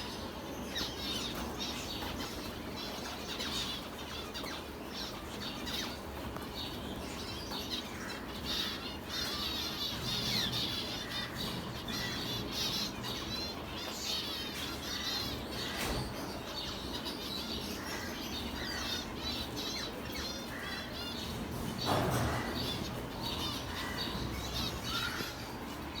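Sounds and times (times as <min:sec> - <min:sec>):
finches chirping: 0:00.0 - 0:26.0
low background noise: 0:00.0 - 0:26.0.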